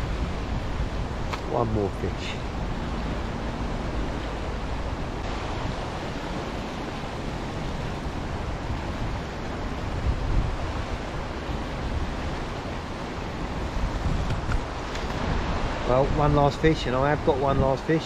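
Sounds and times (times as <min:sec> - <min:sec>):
stream water rushing over a drop: 0:00.0 - 0:18.0.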